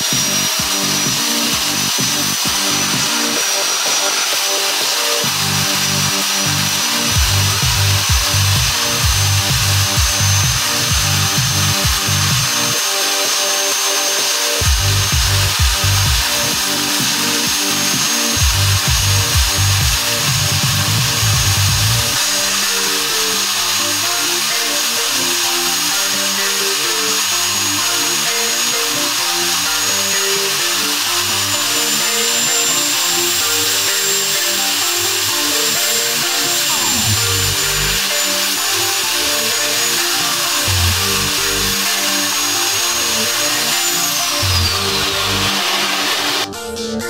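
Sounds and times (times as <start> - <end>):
high turbine whine: 0.0 - 47.0.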